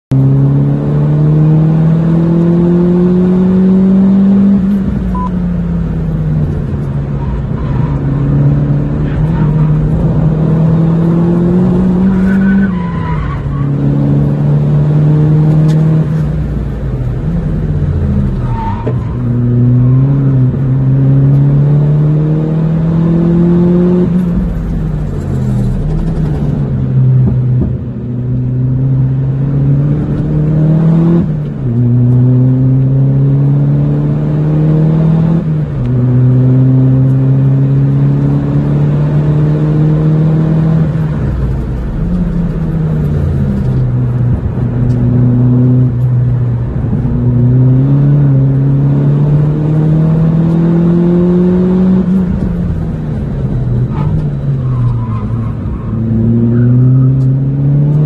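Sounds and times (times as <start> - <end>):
car engine revving: 0.1 - 58.0.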